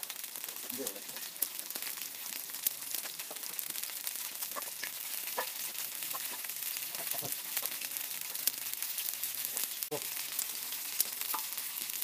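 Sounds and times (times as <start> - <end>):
chicken wings sizzling on griddle: 0.0 - 12.0.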